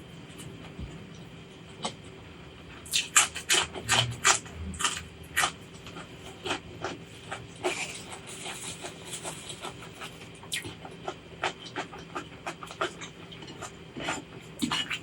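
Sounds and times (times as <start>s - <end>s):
chewing and mouth sounds: 2.8s - 15.0s.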